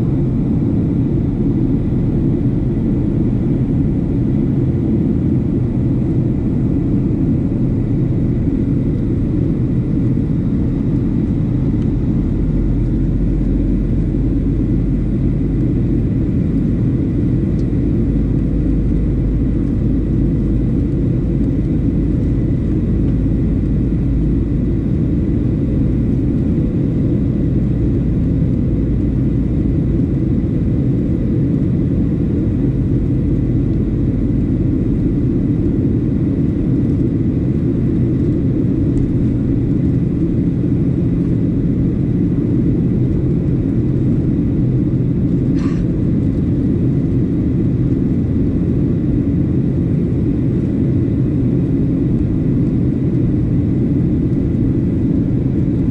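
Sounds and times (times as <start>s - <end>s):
airliner cabin roar: 0.0s - 55.9s
faint steady engine whine: 0.0s - 55.9s.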